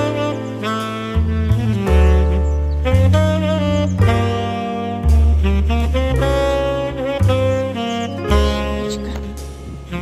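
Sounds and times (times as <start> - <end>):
bass line: 0.0 - 10.0
saxophone melody: 0.0 - 10.0.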